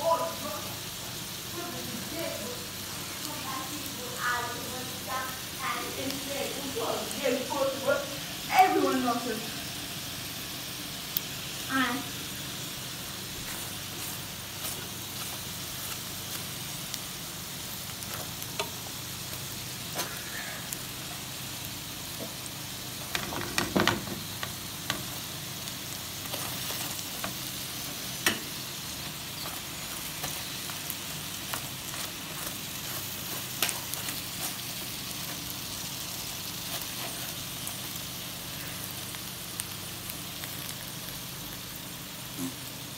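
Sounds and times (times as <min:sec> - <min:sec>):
sausages sizzling in a frying pan: 0:00.0 - 0:42.9.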